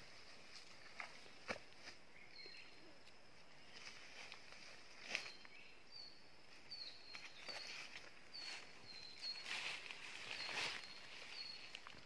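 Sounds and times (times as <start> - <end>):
rustle in undergrowth: 0.0 - 2.7, 3.4 - 5.9, 6.5 - 12.0.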